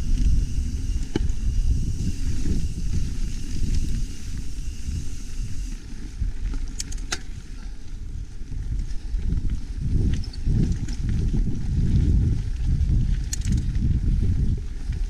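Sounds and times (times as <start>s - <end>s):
bike clicks: 0.0s - 15.0s
wind buffeting microphone: 0.0s - 15.0s.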